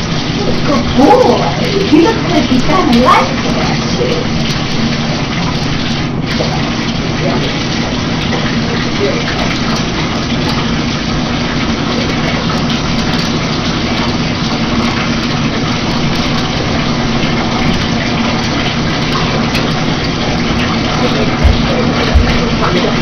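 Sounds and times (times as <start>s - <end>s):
running water from tap: 0.0s - 23.0s.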